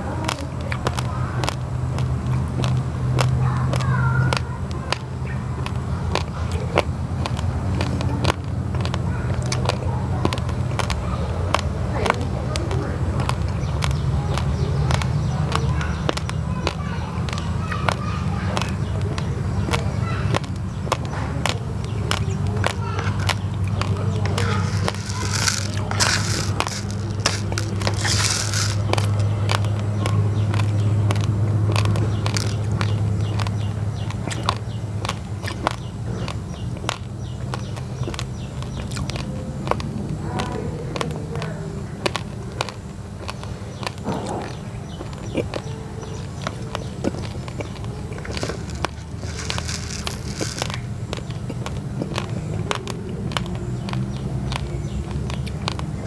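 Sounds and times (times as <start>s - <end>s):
raw rice crunching between teeth: 0.0s - 56.0s.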